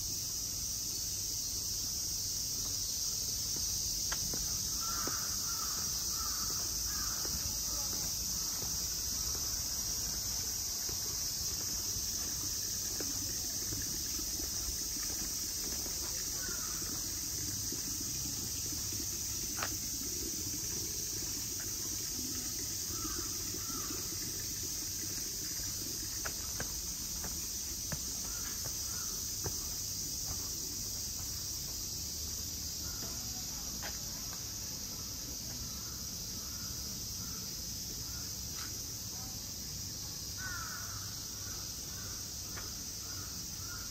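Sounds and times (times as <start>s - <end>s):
insect chirring: 0.0s - 43.9s.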